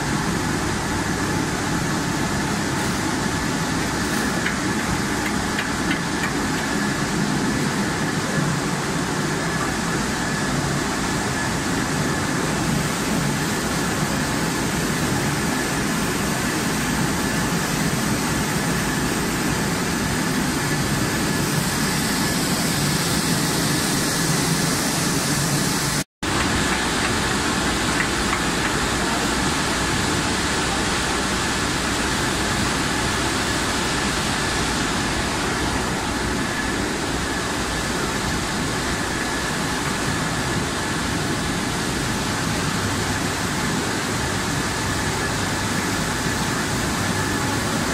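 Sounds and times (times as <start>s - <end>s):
motors and conveyors running: 0.0s - 47.9s.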